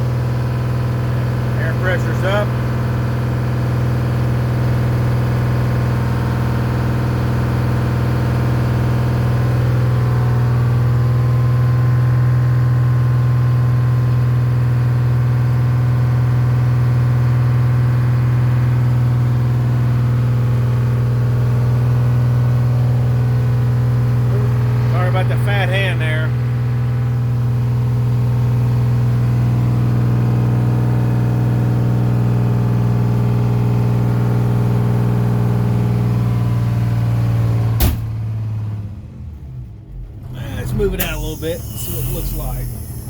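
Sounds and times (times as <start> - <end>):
diesel engine idling: 0.0 - 31.6, 36.8 - 43.0.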